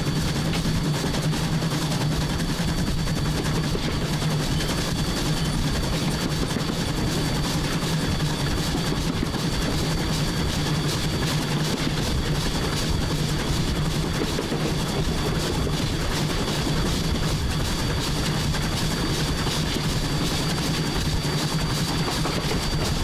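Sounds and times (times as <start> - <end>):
steam locomotive rumbling: 0.0 - 23.0.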